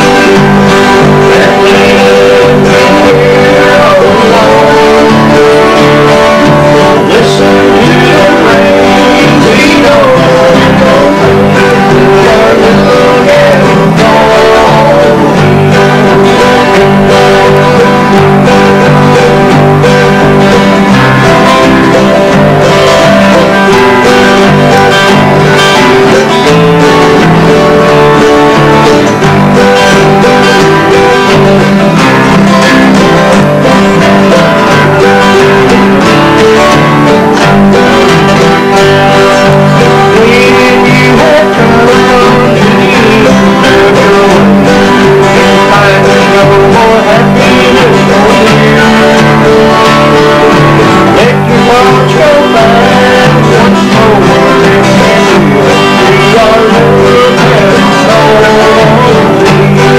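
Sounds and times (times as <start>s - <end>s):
acoustic guitars strumming: 0.0s - 59.9s
wavering guitar melody line: 0.0s - 59.9s.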